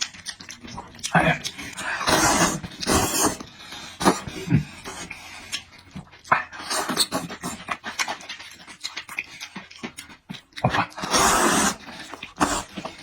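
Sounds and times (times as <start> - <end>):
noisy slurp: 0.0 - 13.0
wet chewing with smacks: 0.0 - 13.0.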